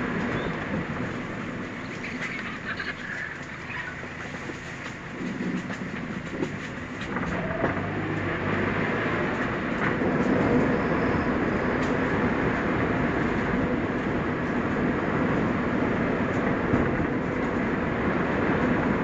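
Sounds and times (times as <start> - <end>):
car engine: 0.0 - 19.0
tyre and road rumble: 0.0 - 19.0.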